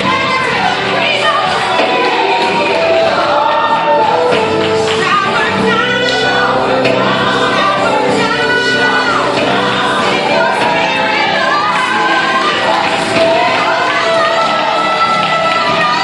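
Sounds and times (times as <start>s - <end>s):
gospel choir singing: 0.0s - 16.0s
instrumental backing music: 0.0s - 16.0s.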